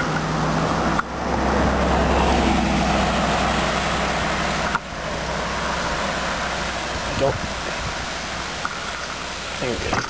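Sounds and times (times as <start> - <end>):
car passing: 0.0 - 9.6.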